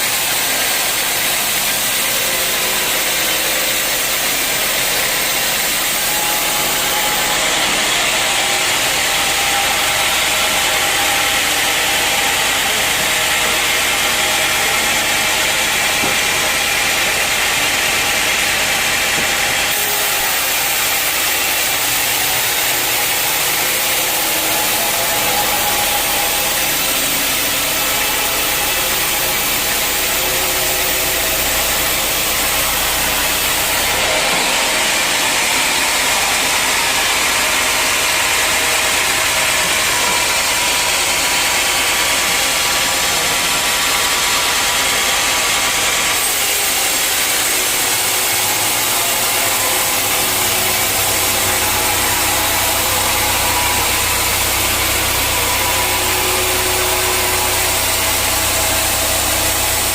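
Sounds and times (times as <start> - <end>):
sawmill machinery sawing wood: 0.0 - 59.9.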